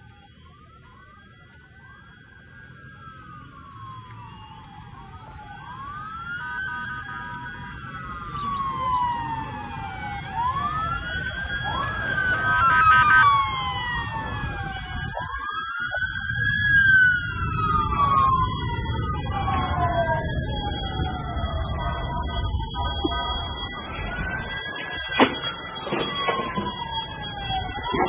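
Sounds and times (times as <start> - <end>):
emergency sirens wailing: 0.0 - 28.0.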